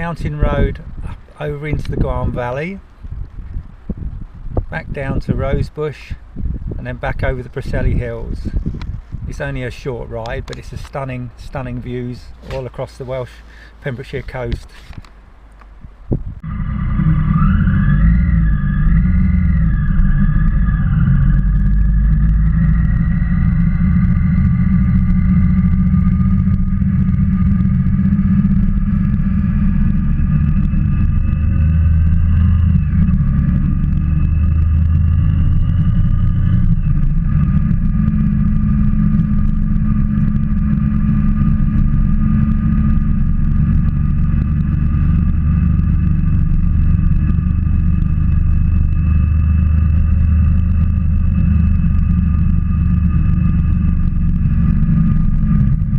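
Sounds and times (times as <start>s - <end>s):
motorcycle engine rumbling: 0.0s - 55.9s.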